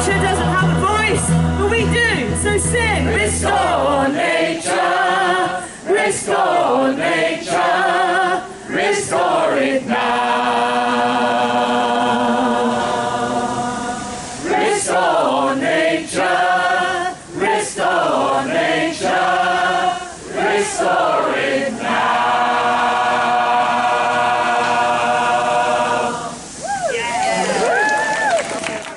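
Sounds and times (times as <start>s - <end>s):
choir singing: 0.0s - 26.6s.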